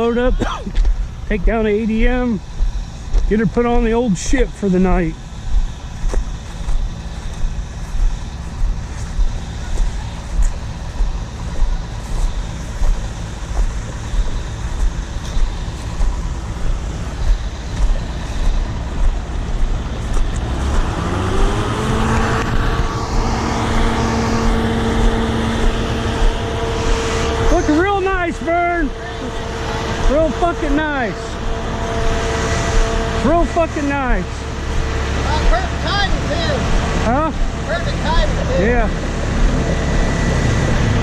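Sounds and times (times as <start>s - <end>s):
combine engine pulsing: 0.0s - 41.0s
machinery hum rising in pitch: 0.0s - 41.0s.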